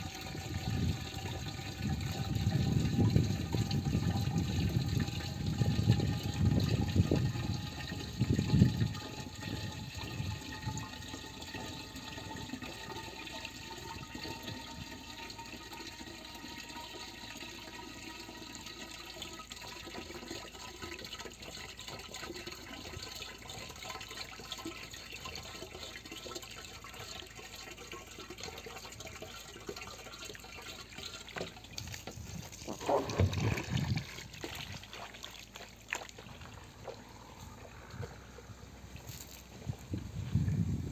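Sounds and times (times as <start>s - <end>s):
water pouring into plastic can: 0.0s - 40.7s.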